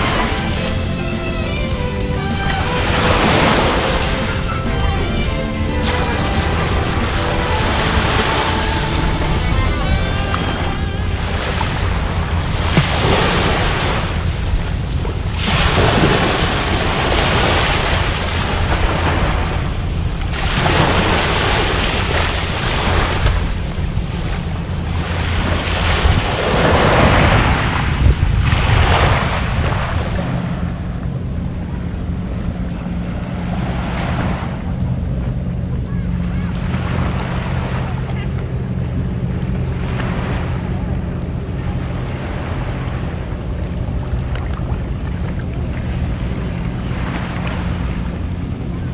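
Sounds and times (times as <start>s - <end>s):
low engine hum: 0.0s - 48.9s
waves washing onto shore: 0.0s - 48.9s
wind buffeting microphone: 0.0s - 48.9s.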